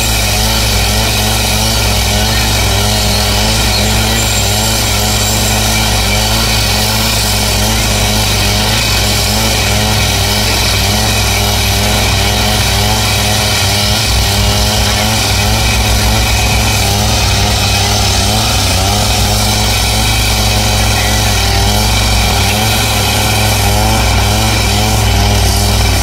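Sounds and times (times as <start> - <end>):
cut-off saw engine drone: 0.0 - 26.0
disc grinding through steel: 0.0 - 26.0.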